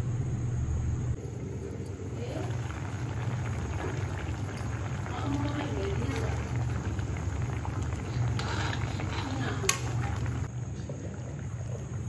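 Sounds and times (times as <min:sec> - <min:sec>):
steady low hum: 0:00.0 - 0:12.0
curry bubbling and crackling: 0:01.2 - 0:12.0.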